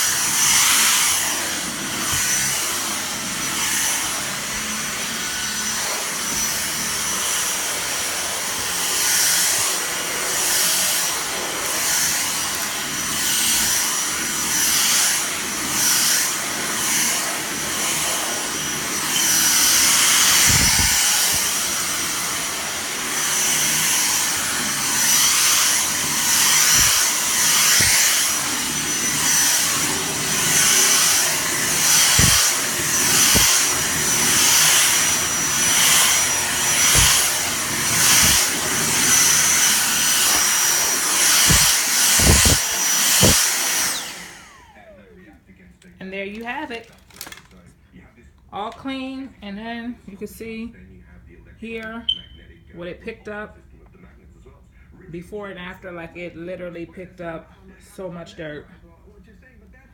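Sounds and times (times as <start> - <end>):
vacuum cleaner whining: 0.0 - 48.8.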